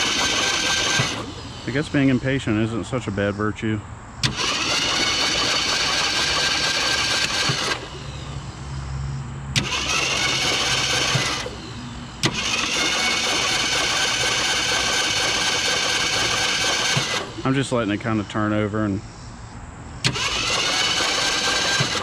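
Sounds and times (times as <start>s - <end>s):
starter motor cranking engine: 0.0s - 8.8s, 9.5s - 19.0s, 20.0s - 22.0s.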